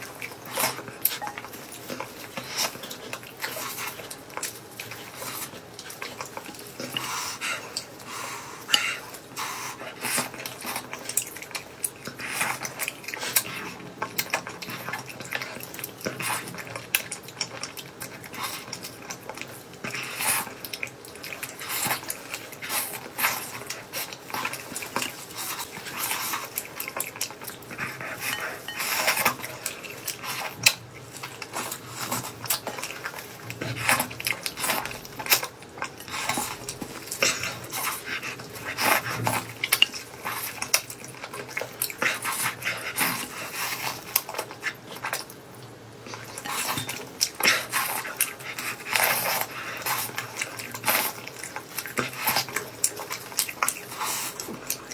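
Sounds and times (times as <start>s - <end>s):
chewing and mouth noises: 0.0s - 54.9s.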